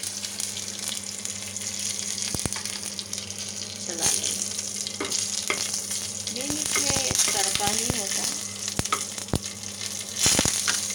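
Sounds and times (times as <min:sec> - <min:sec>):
spices sizzling in hot oil: 0:00.0 - 0:10.9.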